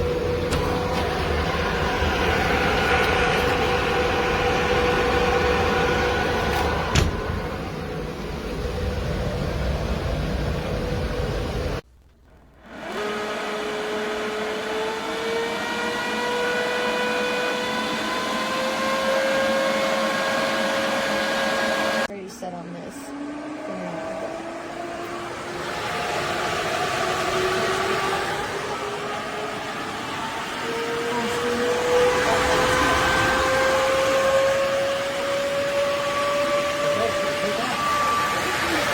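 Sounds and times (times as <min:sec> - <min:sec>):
duct fan whining: 0:00.0 - 0:38.9.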